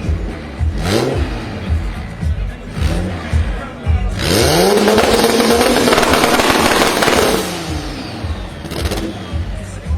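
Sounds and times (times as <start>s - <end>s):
background music with steady beat: 0.0s - 9.9s
car engine revving: 0.0s - 9.9s.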